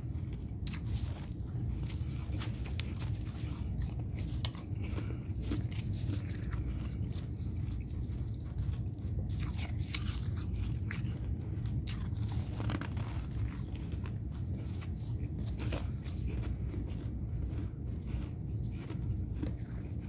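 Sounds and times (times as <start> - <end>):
chewing and crunching ice: 0.0 - 20.0.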